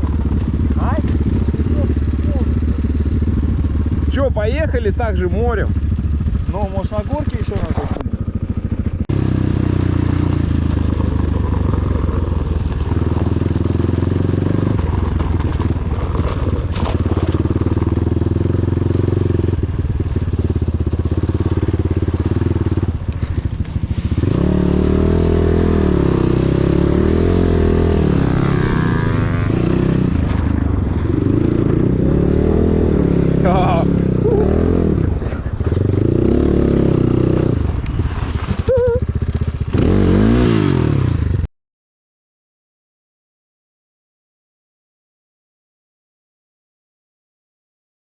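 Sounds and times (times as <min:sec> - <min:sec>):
motorcycle engine revving: 0:00.0 - 0:41.5.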